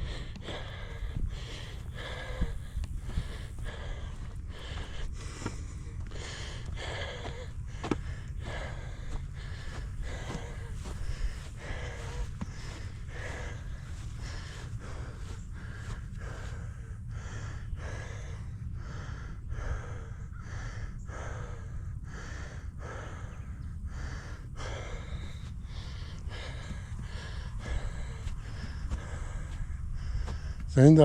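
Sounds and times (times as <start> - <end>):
low wind rumble on microphone: 0.0 - 31.0
person breathing hard: 0.0 - 31.0.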